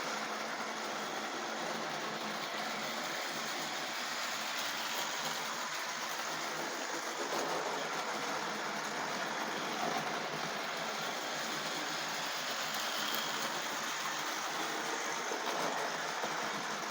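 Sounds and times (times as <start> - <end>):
small electric motor whirring: 0.0 - 16.9.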